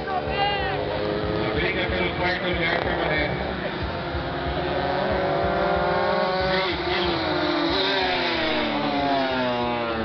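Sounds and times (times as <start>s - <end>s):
racing motorcycle engines: 0.0s - 10.0s.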